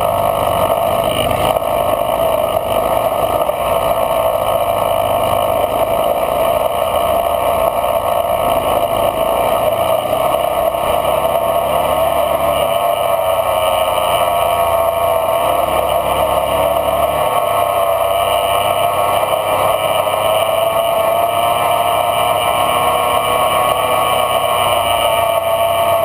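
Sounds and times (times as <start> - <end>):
off-road vehicle engine running: 0.0 - 26.0.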